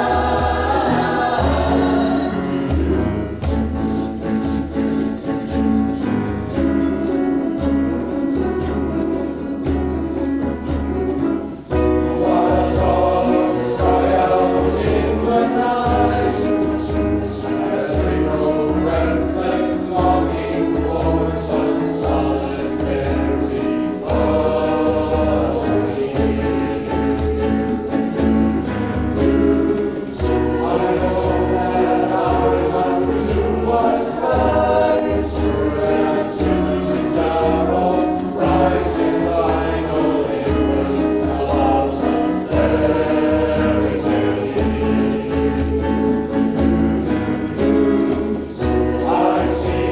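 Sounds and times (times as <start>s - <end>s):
choir singing in parts: 0.0s - 49.9s
steady rhythmic beat: 0.0s - 49.9s.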